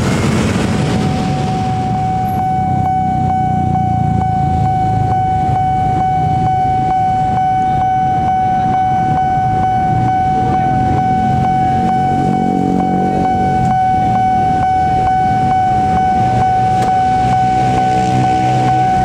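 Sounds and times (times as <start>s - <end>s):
idling vehicle engines rumble: 0.0s - 19.0s
level crossing alarm ringing: 0.0s - 19.0s.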